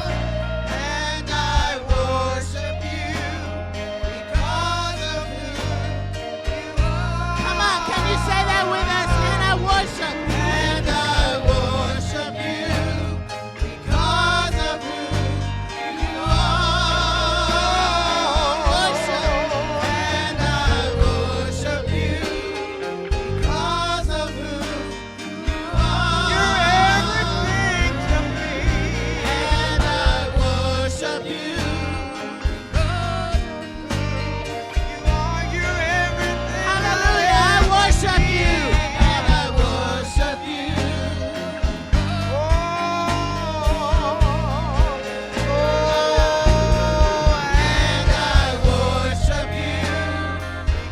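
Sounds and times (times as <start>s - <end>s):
band with bass and drums: 0.0s - 50.9s
person singing with vibrato: 0.0s - 50.9s.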